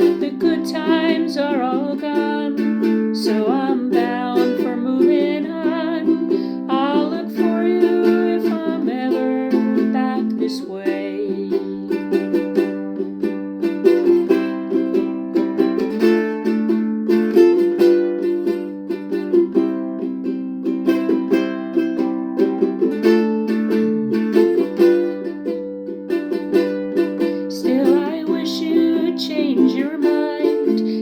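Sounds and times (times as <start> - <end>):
ukulele strumming: 0.0 - 31.0.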